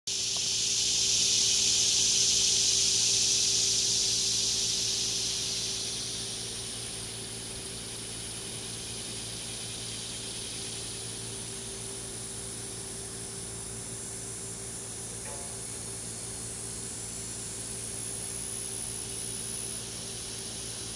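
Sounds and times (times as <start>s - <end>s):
cicadas buzzing: 0.1s - 20.9s
high steady whine: 0.1s - 20.9s.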